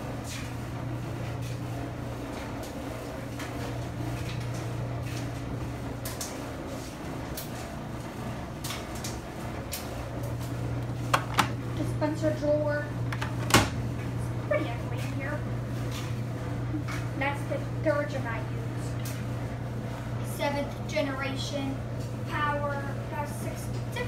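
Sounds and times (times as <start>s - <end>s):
washer and dryer humming: 0.0s - 24.0s.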